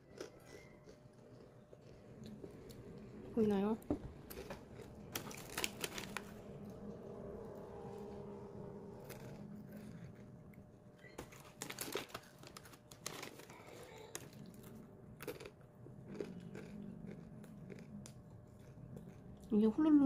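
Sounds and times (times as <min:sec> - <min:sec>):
faint crunches and crinkles: 0:00.0 - 0:20.0
low steady hum: 0:00.0 - 0:20.0.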